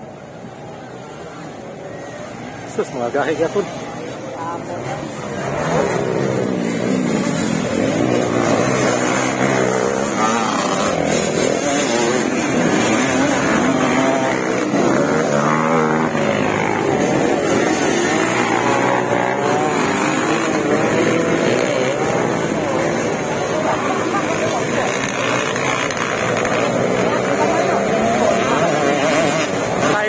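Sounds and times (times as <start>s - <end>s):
dirt bikes revving: 1.5s - 30.0s.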